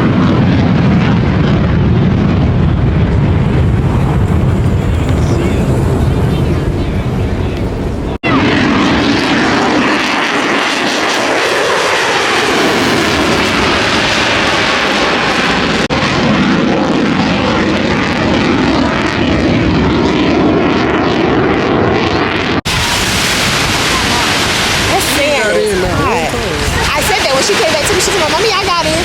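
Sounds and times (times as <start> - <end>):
planes flying overhead: 0.0 - 29.0.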